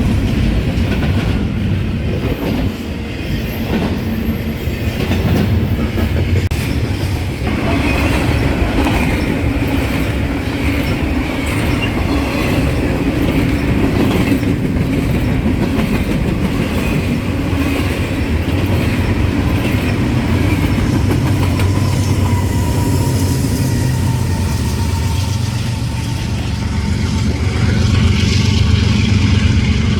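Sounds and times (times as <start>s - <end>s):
freight train cars rolling: 0.0s - 29.9s.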